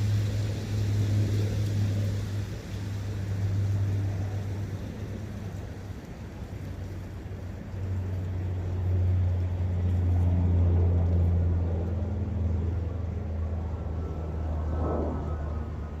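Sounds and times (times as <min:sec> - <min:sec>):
passing engine drone: 0:00.0 - 0:16.0.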